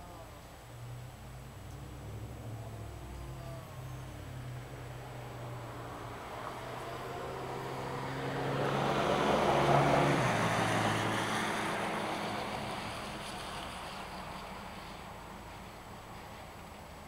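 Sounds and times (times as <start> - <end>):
motor passing by with rushing hiss: 0.0 - 17.0.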